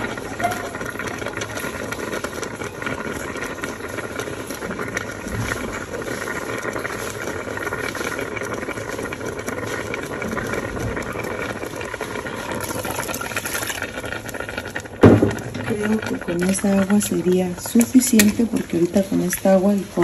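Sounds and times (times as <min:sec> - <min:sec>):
soup bubbling and crackling: 0:00.0 - 0:20.0.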